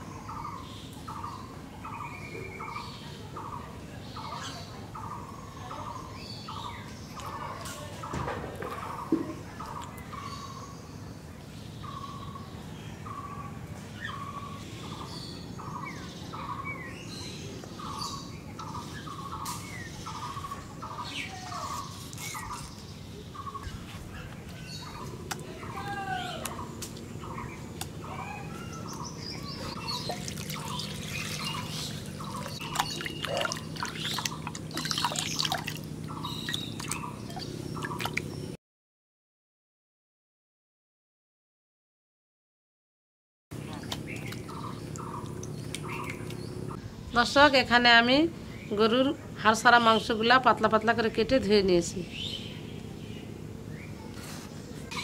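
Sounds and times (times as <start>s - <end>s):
birds calling: 0.0s - 38.6s, 43.6s - 55.0s.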